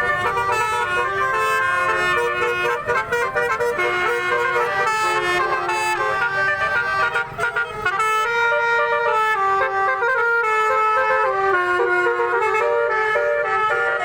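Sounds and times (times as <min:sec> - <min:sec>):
musical car horns playing a tune: 0:00.0 - 0:14.0.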